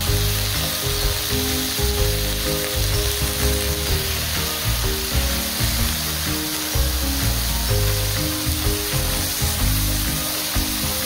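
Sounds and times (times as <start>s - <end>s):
mushrooms sizzling in frying pan: 0.0s - 11.0s.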